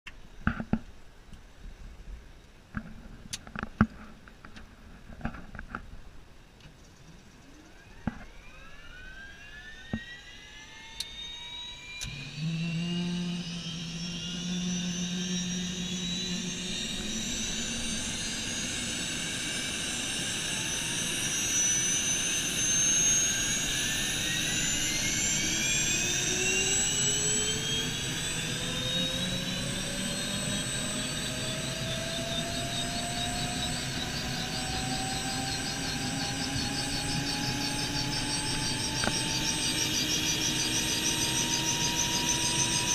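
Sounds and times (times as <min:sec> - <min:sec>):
turbine whine spooling up: 0:07.1 - 0:42.9
deep rotor hum: 0:07.2 - 0:42.9.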